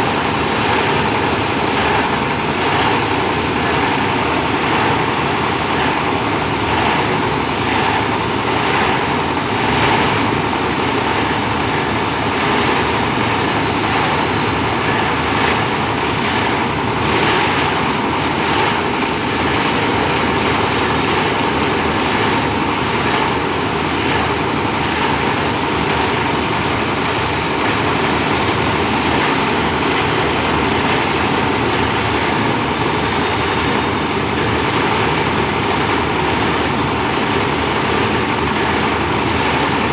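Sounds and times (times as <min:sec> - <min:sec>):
shredder machine running: 0:00.0 - 0:39.9.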